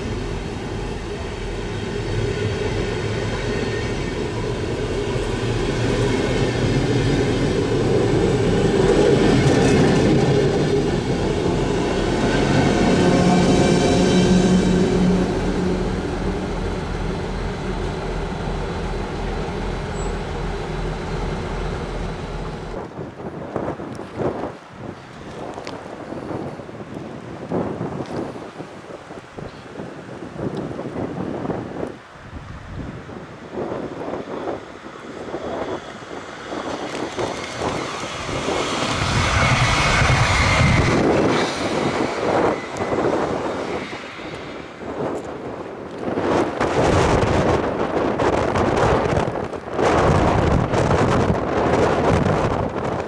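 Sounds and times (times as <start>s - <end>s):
receding train rumble: 0.0s - 24.5s, 25.3s - 53.0s
wind buffeting microphone: 0.0s - 53.0s.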